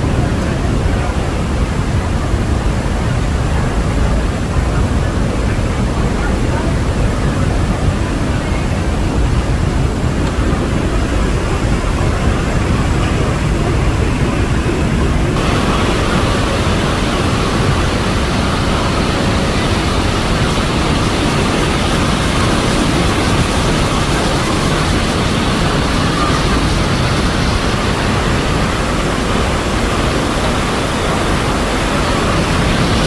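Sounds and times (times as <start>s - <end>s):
rush of falling water: 0.0s - 33.0s.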